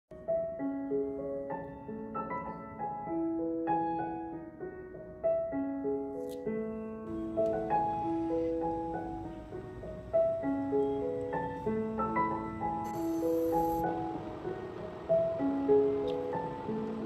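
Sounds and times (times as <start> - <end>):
gentle solo piano melody: 0.1 - 17.0.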